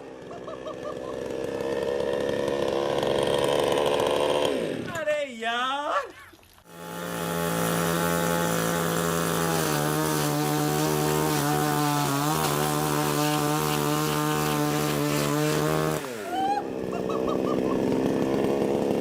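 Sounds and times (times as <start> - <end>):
chainsaw running at high throttle: 0.0 - 5.0, 6.7 - 19.0.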